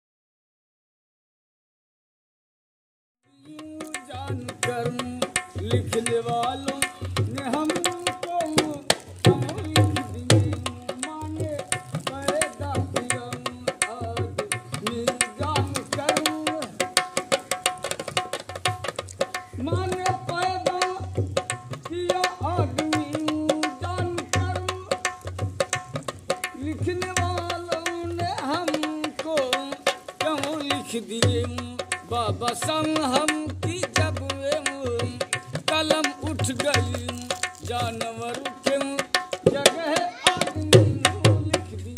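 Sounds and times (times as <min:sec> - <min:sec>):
hand drum playing fast rhythm: 0:03.5 - 0:41.9.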